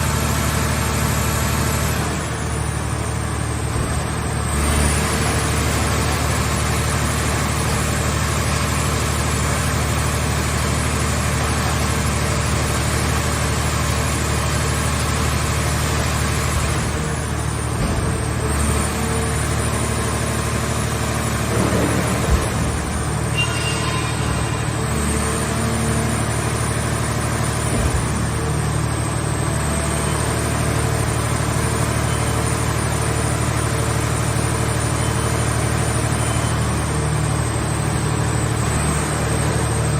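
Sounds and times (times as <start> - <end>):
hydraulic power unit droning: 0.0 - 39.9.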